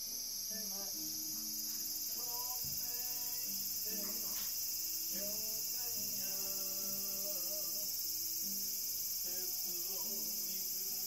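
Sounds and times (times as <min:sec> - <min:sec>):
cicadas buzzing: 0:00.0 - 0:11.0
man singing faintly: 0:00.5 - 0:01.4, 0:02.0 - 0:08.1, 0:09.1 - 0:11.0.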